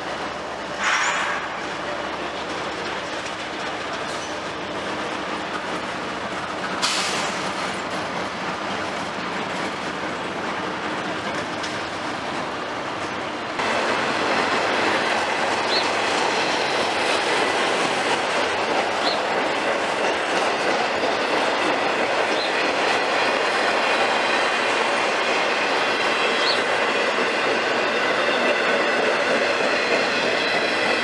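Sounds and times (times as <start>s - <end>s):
freight train wheels on rail: 0.0s - 31.0s.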